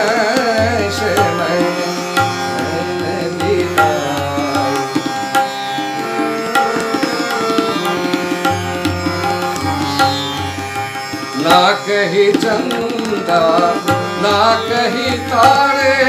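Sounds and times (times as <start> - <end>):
harmonium melody: 0.0 - 16.0
plucked tanpura drone: 0.0 - 16.0
tabla drumming: 0.0 - 16.0.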